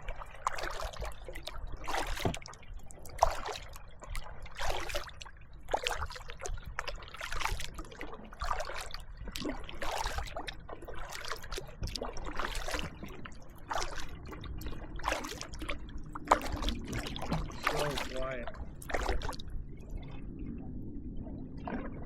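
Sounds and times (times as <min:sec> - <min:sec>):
paddle strokes through water: 0:00.0 - 0:22.0.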